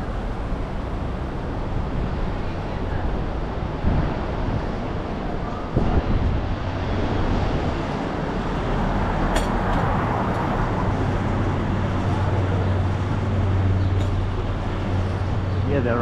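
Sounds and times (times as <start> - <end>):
city street traffic: 0.0 - 16.0
vehicle engine hum: 0.0 - 16.0.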